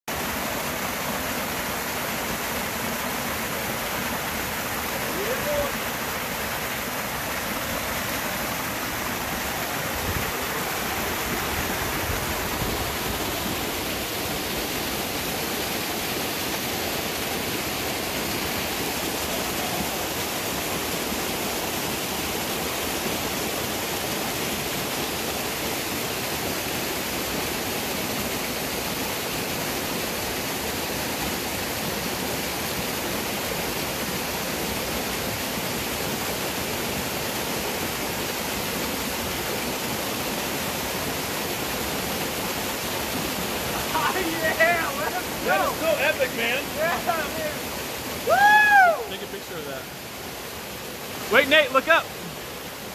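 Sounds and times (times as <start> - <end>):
waterfall rushing: 0.1 - 52.9.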